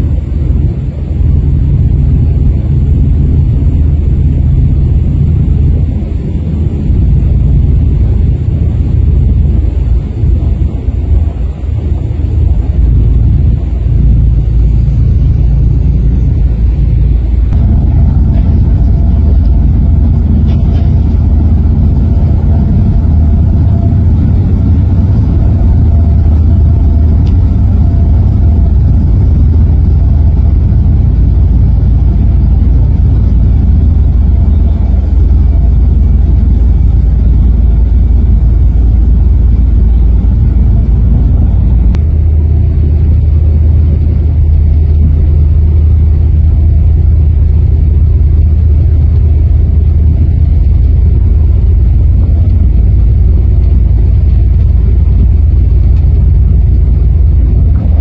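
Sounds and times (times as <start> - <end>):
faint steady whine: 0.0 - 58.0
ferry engine rumble: 0.0 - 58.0.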